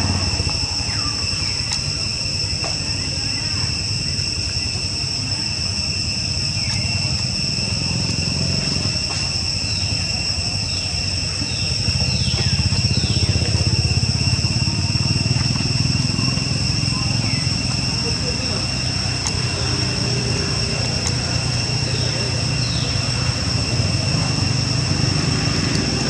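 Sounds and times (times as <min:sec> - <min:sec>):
engine running: 0:00.0 - 0:03.9, 0:06.5 - 0:26.0
high insect drone: 0:00.0 - 0:26.0.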